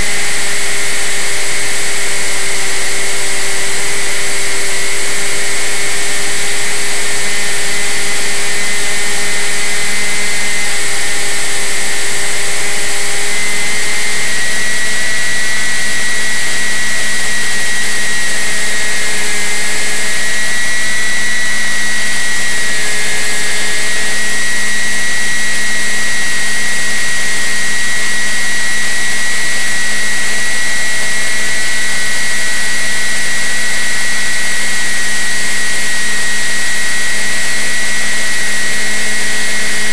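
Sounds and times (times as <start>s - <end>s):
motor and propeller whine: 0.0s - 39.9s.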